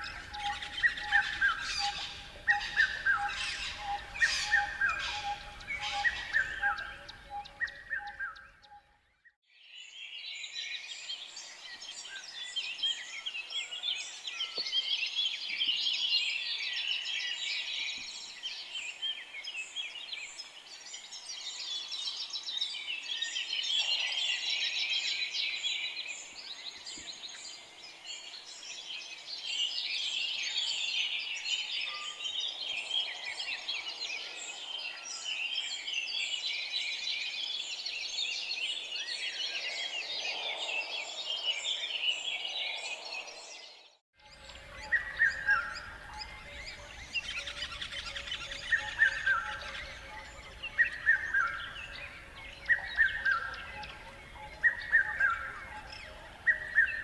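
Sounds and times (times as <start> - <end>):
chorus of small birds chirping: 0.0 - 8.8, 16.7 - 57.0.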